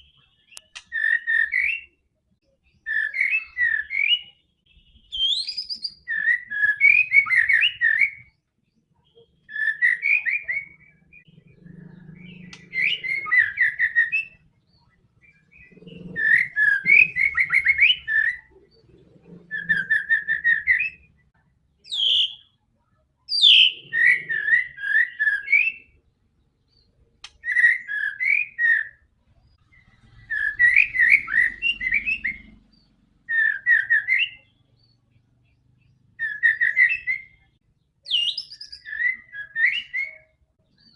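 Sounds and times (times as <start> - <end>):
bird singing whistled phrases: 0.0 - 2.0, 2.7 - 8.4, 9.0 - 11.4, 12.1 - 18.6, 19.5 - 21.2, 21.8 - 22.5, 23.3 - 26.0, 26.7 - 29.0, 29.7 - 32.6, 33.3 - 34.9, 36.2 - 40.9.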